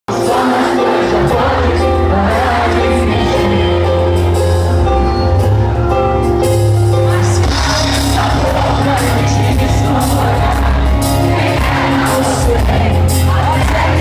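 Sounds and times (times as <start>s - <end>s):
person singing: 0.1s - 4.6s, 6.9s - 14.0s
rock band playing live: 0.1s - 14.0s.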